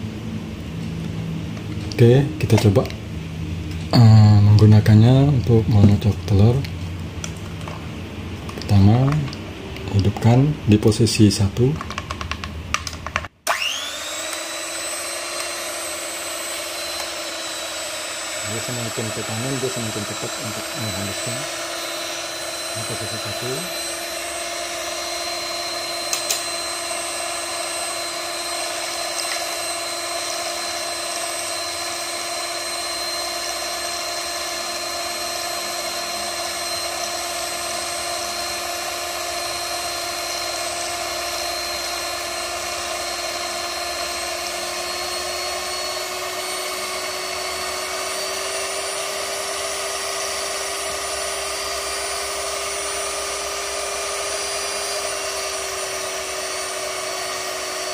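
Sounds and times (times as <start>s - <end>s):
hand mixer motor whine: 0.0s - 57.9s.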